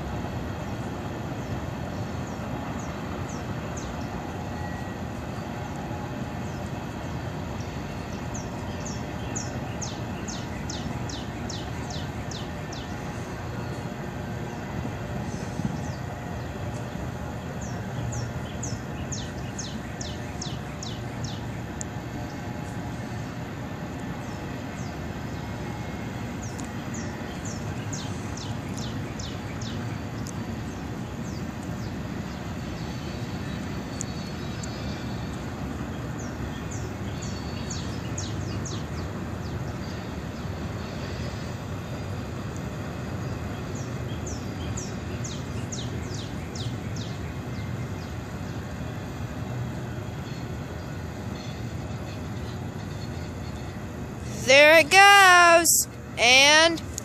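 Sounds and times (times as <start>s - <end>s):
distant freight train rumbling: 0.0s - 57.0s.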